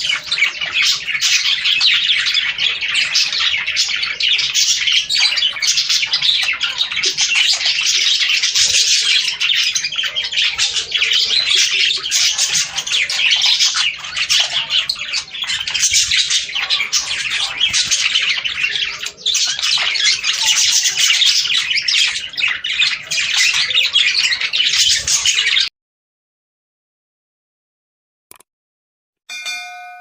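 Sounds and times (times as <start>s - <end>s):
budgerigars chattering: 0.0s - 25.7s.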